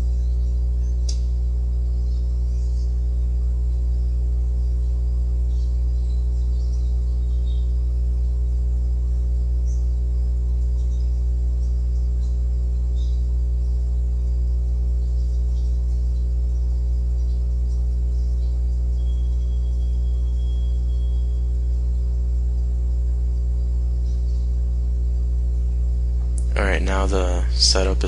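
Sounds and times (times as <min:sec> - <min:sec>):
loud electrical hum: 0:00.0 - 0:28.0
faint high chirps: 0:01.9 - 0:24.8.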